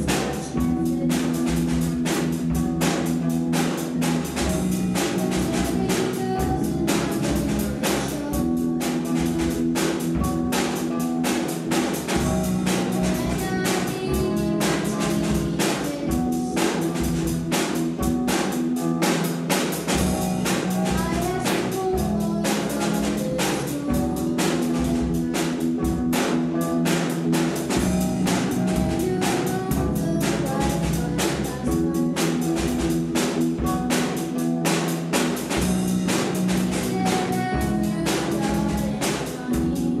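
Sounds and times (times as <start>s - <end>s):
bass guitar: 0.0s - 40.0s
driving drum-kit beat: 0.0s - 40.0s
electric guitars holding chords: 0.0s - 40.0s.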